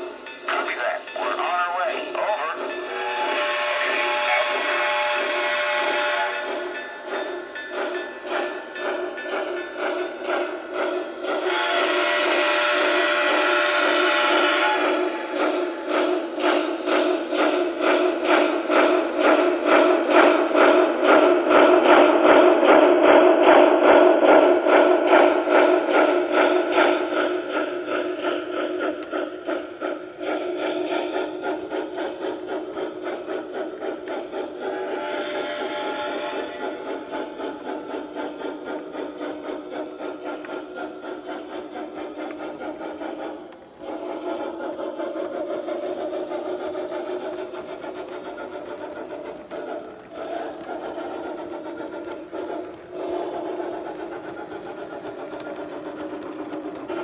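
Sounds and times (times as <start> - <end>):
model train wheels clicking: 0.0 - 57.0.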